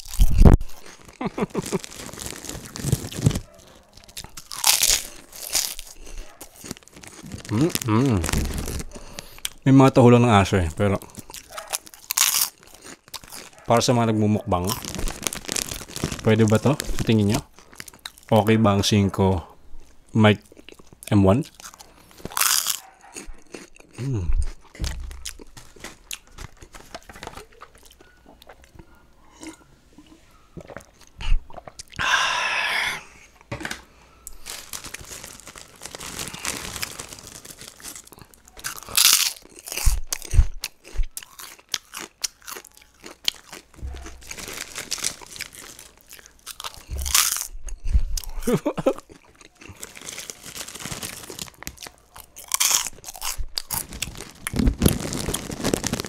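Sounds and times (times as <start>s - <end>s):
crunching and chewing snack: 0.0s - 18.6s, 19.8s - 32.0s, 33.2s - 56.0s.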